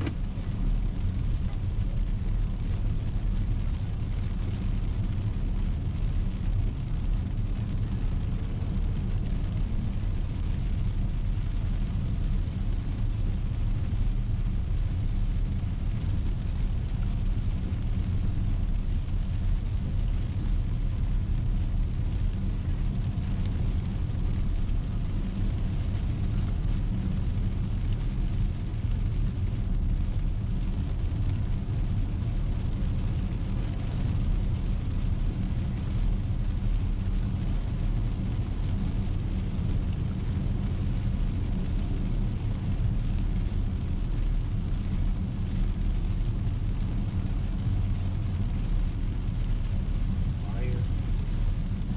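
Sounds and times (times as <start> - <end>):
engine and tyre rumble: 0.0 - 51.9
tyres hissing on wet road: 0.0 - 51.9.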